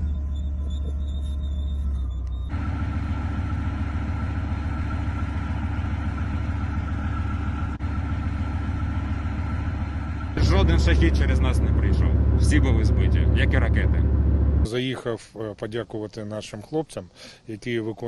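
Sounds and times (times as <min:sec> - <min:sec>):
diesel engine low rumble: 0:00.0 - 0:14.8.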